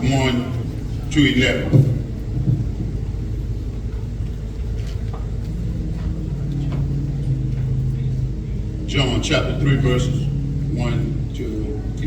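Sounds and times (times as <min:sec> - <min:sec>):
faint low hum: 0:00.0 - 0:12.0
low room rumble: 0:00.0 - 0:12.0.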